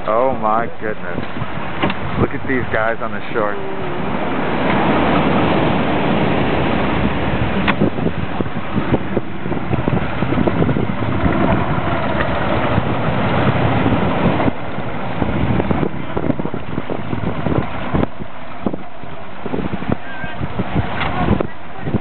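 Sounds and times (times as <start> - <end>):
outboard motor running: 0.0 - 22.0
wind buffeting microphone: 0.0 - 22.0.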